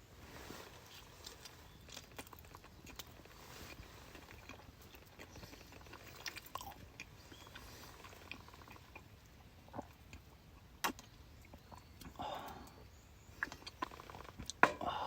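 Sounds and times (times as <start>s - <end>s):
small crunchy clicks: 0.5s - 14.7s
chewing and biting food: 0.7s - 12.2s, 13.4s - 14.6s.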